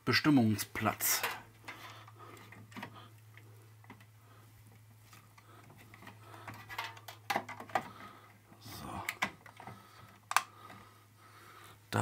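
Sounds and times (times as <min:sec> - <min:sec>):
faint clicks and taps: 0:01.2 - 0:10.9.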